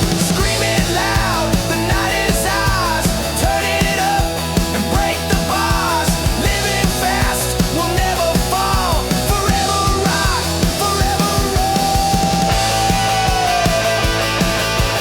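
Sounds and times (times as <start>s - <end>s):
bass guitar: 0.0s - 15.0s
drums: 0.0s - 15.0s
electric guitar lead: 0.0s - 15.0s.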